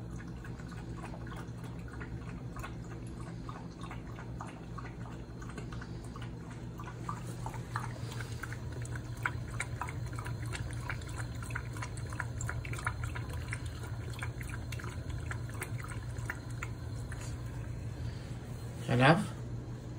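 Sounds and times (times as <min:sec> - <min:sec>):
puppy lapping water: 0:00.0 - 0:18.8.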